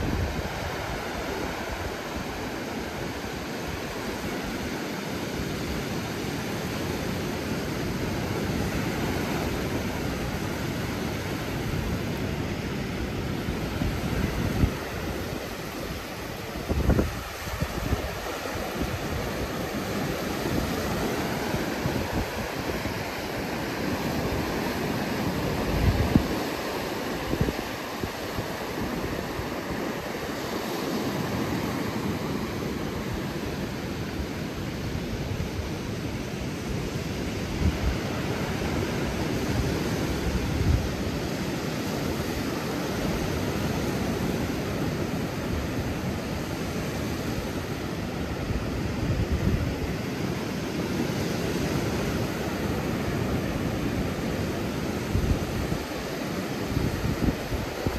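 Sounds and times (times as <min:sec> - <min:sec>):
wind buffeting the microphone: 0:00.0 - 0:04.7, 0:06.6 - 0:57.9
strong wind: 0:00.0 - 0:57.9
surf: 0:00.0 - 0:57.9.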